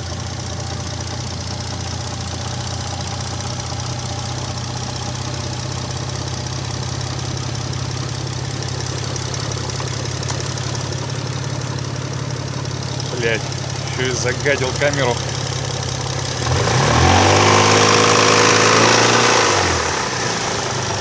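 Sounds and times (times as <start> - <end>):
engine idling: 0.0 - 21.0
fast steady engine knock: 0.0 - 21.0.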